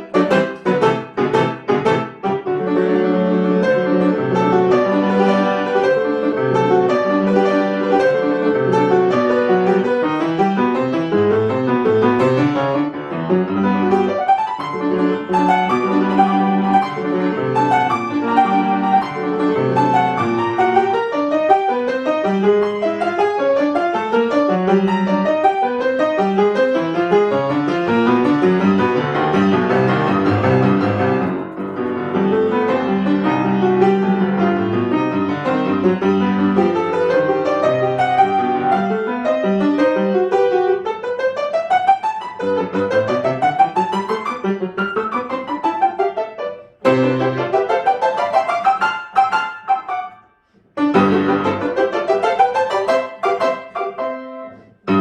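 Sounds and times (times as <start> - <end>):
solo piano classical piece: 0.0 - 55.0.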